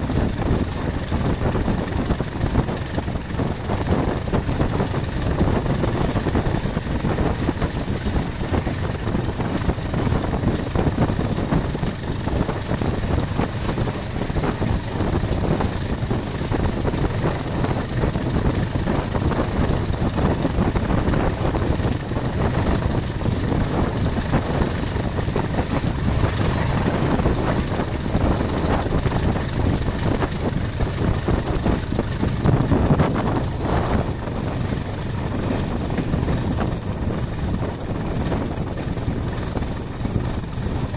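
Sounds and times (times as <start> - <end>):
coach wheels rumbling on track: 0.0 - 40.9
diesel locomotive engine drone: 0.0 - 40.9.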